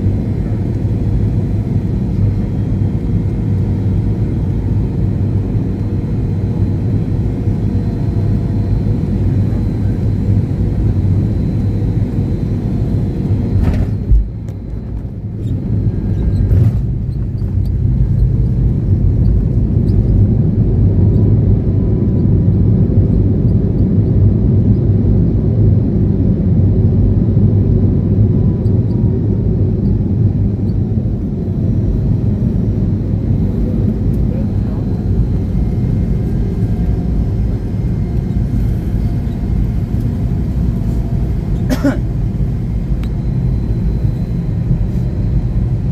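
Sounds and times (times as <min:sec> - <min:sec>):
airliner engines rumbling: 0:00.0 - 0:45.9.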